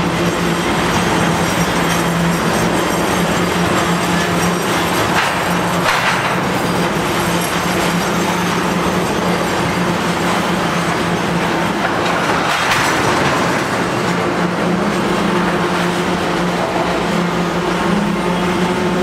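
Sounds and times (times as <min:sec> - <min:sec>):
freight train wheels on rails: 0:00.0 - 0:19.0.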